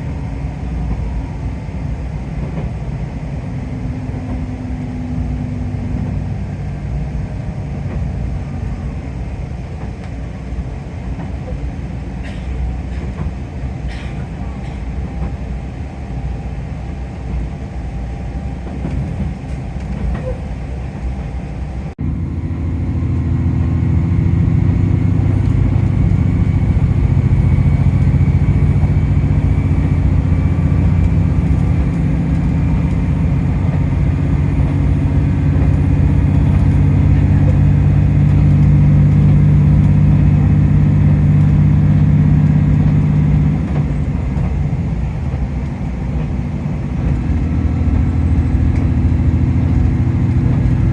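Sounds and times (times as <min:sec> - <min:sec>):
diesel railcar engine: 0:00.0 - 0:50.9
rail rumble: 0:00.0 - 0:50.9.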